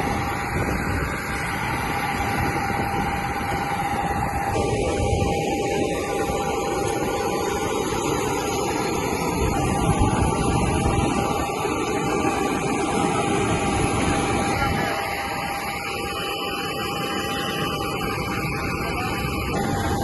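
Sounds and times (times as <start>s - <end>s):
aircraft engine running: 0.0s - 20.0s
steady high whine: 0.0s - 20.0s.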